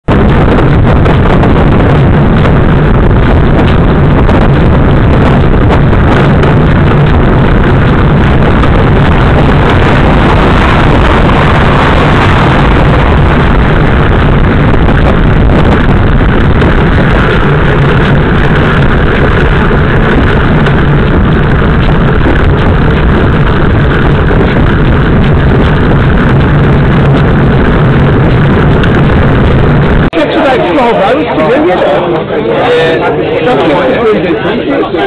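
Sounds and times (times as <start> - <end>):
road and tyre noise: 0.0 - 35.0
wind buffeting microphone: 0.0 - 35.0.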